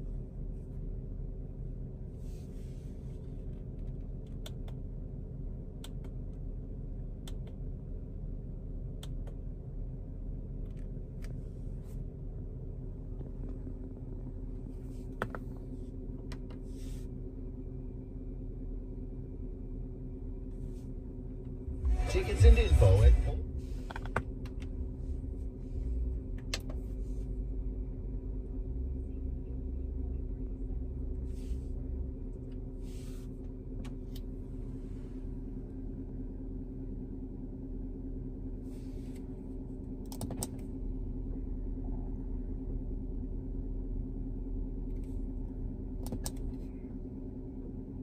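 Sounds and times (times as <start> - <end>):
engine idling low hum: 0.0 - 48.0.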